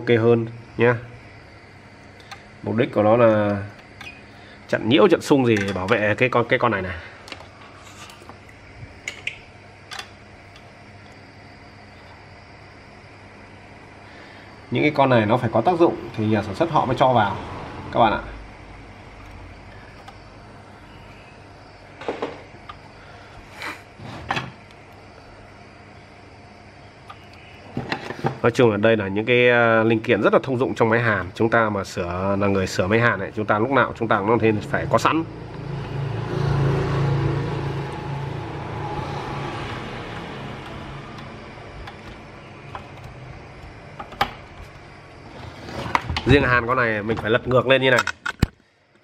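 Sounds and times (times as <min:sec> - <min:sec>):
steady background noise: 0:00.0 - 0:49.0.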